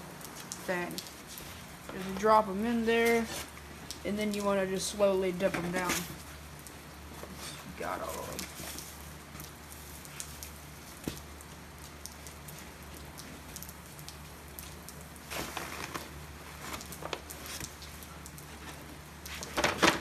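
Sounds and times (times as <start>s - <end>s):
rain patter: 0.0s - 20.0s.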